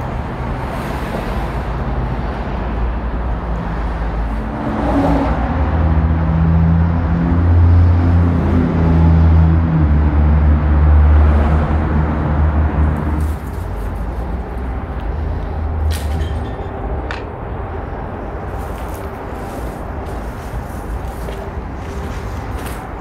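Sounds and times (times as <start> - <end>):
large engine rumbling: 0.0 - 23.0.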